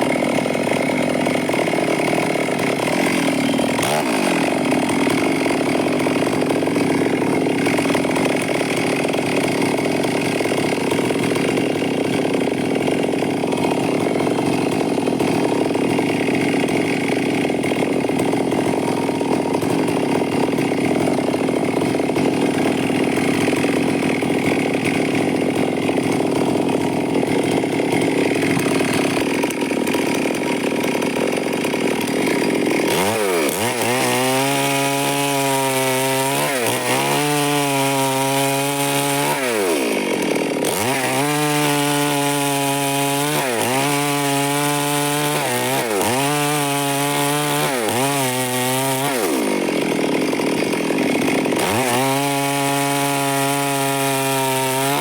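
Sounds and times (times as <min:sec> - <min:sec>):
chainsaw cutting wood: 0:00.0 - 0:55.0
chainsaw engine revving: 0:00.0 - 0:55.0.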